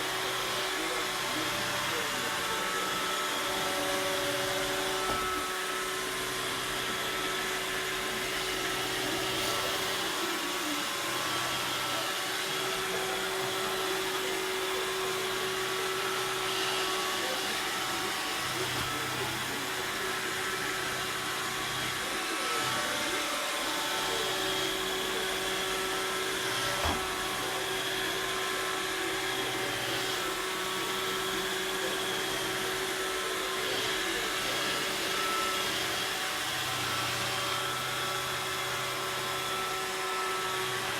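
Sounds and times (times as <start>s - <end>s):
robot vacuum motor hum: 0.0s - 40.9s.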